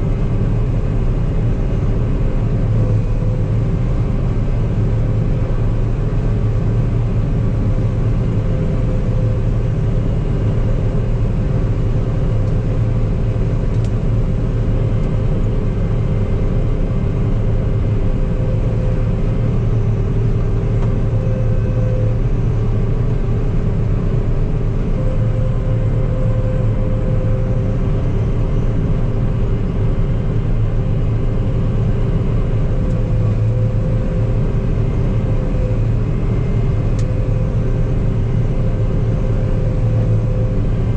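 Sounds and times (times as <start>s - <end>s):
combine harvester engine hum: 0.0s - 40.9s.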